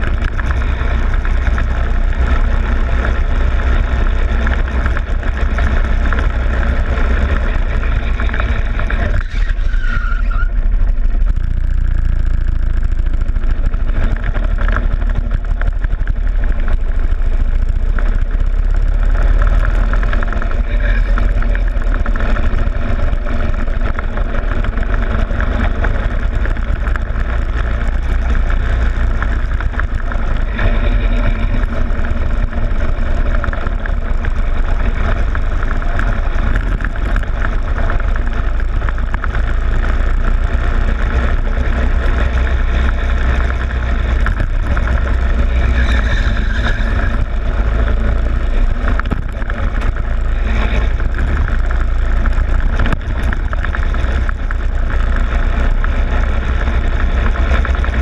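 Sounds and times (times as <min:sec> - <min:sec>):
go-kart engine racing: 0:00.0 - 0:58.0
heavy low rumble: 0:00.0 - 0:58.0.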